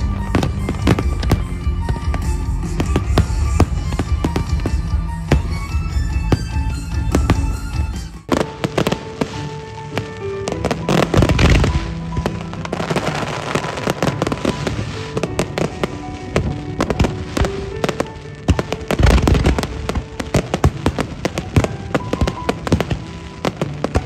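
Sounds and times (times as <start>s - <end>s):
fireworks bangs and crackles: 0.0s - 24.0s
music: 0.0s - 24.0s.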